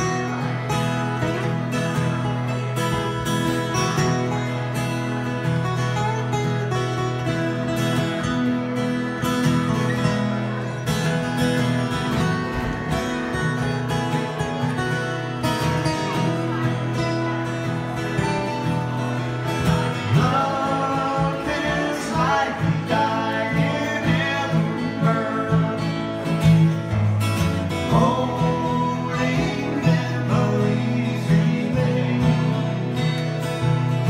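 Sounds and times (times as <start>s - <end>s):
acoustic guitars playing ballad: 0.0s - 34.0s.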